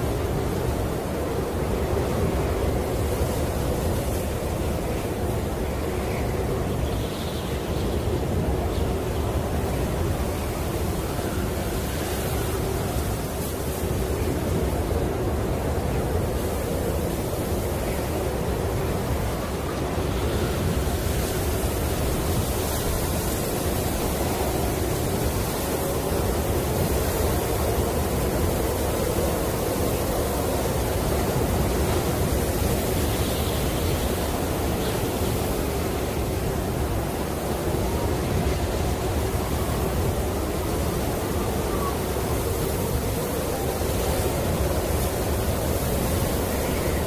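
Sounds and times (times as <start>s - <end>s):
snowstorm wind rushing: 0.0s - 47.0s.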